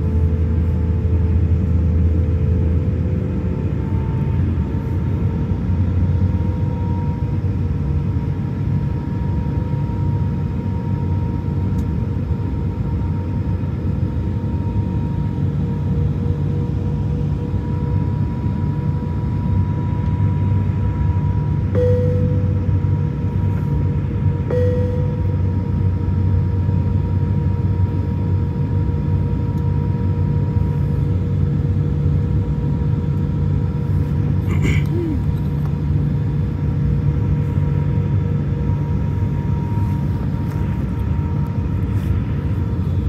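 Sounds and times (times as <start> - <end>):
jet engine low rumble: 0.0 - 43.0
jet engine whine: 0.0 - 43.0.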